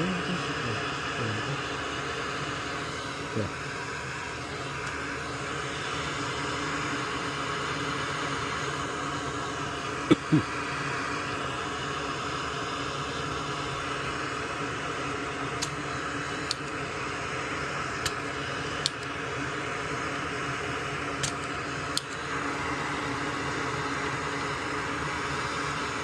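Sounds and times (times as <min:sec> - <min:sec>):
small fan whirring: 0:00.0 - 0:26.0.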